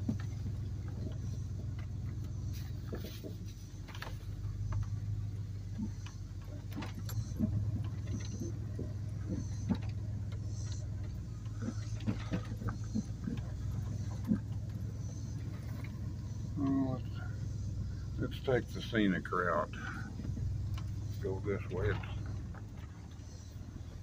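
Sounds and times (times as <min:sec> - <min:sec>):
small clicks and rattles: 0:00.0 - 0:19.0, 0:20.1 - 0:24.0
truck engine hum: 0:00.0 - 0:24.0.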